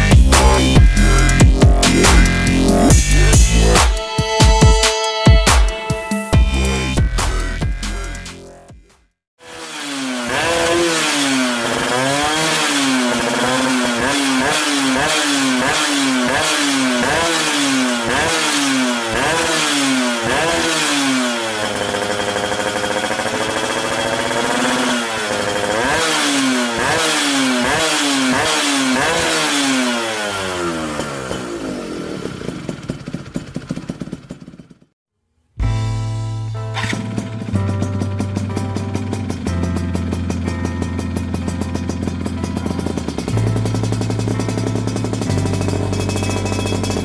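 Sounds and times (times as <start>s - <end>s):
two-stroke engine revving: 0.0s - 8.7s, 9.4s - 35.0s, 36.8s - 47.0s.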